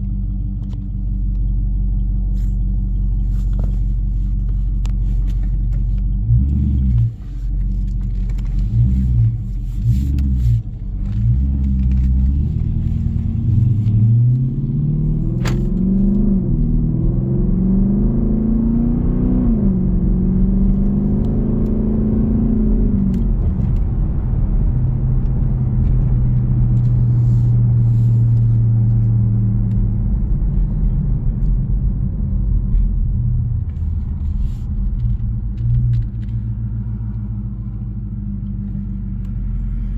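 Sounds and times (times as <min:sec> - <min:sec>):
car exhaust rumbling: 0:00.0 - 0:39.9.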